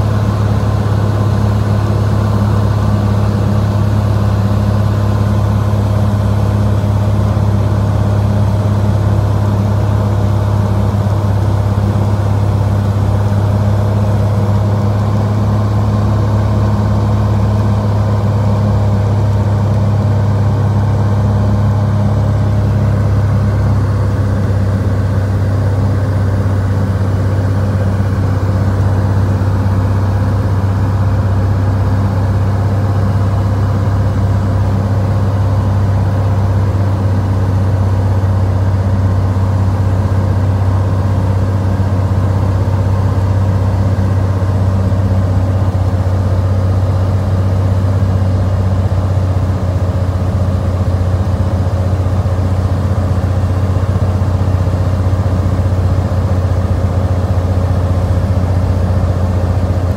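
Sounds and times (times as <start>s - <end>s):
aircraft engine droning: 0.0s - 59.9s.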